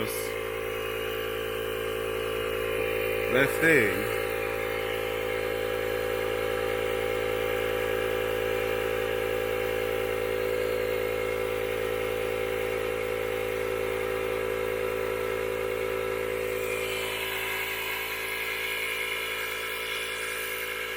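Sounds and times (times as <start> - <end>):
motor running steadily: 0.0 - 20.9.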